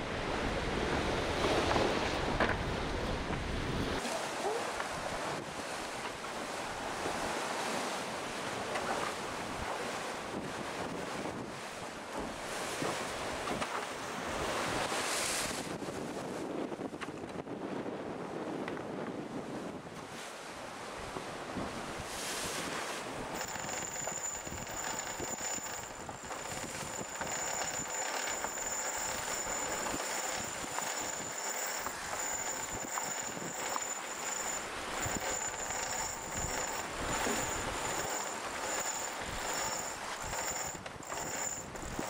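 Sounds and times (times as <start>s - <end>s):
wind: 0.0s - 42.0s.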